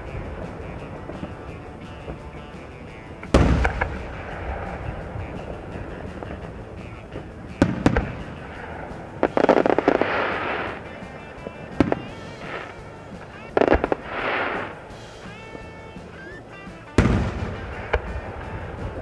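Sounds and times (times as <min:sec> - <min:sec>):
firework shells bursting: 0:00.0 - 0:19.0
fireworks crackling shower: 0:00.0 - 0:19.0.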